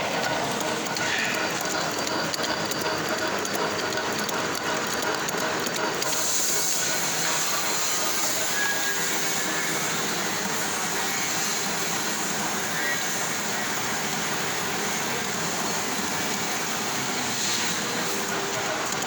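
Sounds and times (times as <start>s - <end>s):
milling machine whirring: 0.0s - 19.0s.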